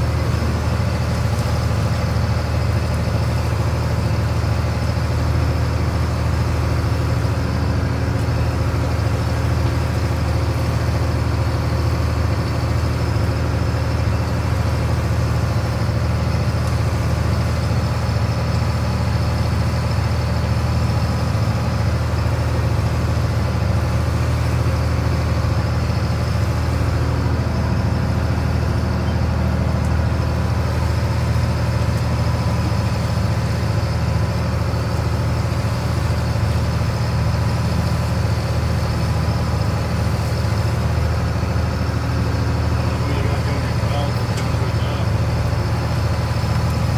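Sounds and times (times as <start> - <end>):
boat engine humming: 0.0 - 46.9.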